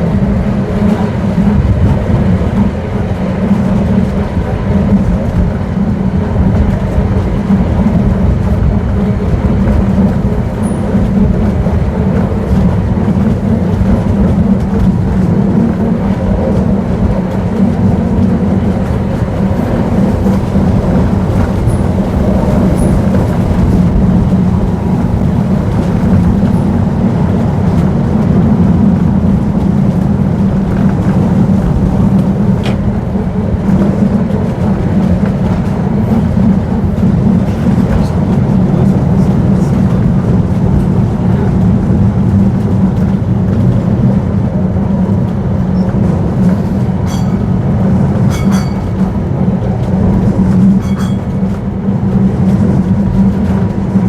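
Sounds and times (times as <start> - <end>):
electric tram rumbling on rails: 0.0 - 54.0.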